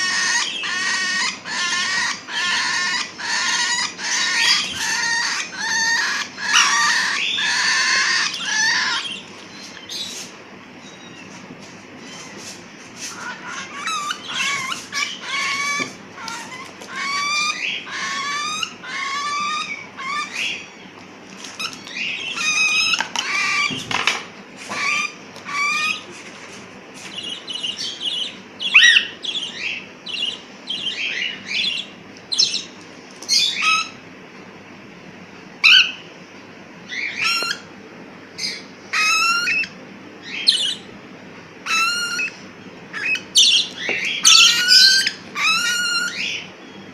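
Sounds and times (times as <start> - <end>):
parrots calling raspily: 0.0 - 26.1, 27.0 - 34.0, 35.6 - 36.0, 36.9 - 37.7, 38.4 - 40.9, 41.6 - 46.8.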